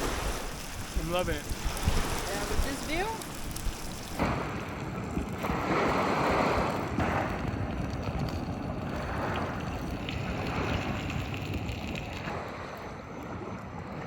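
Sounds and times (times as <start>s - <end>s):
lake waves washing onto beach: 0.0s - 14.0s
wind rumbling on microphone: 0.0s - 14.0s.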